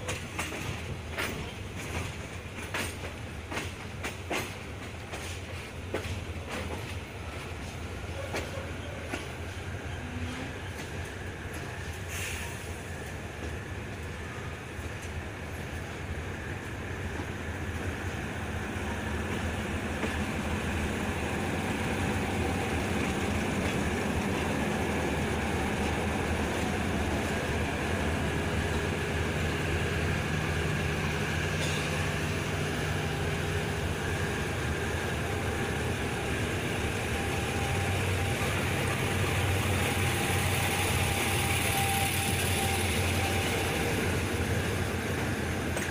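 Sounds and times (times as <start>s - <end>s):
train rolling on rails: 0.0s - 45.9s.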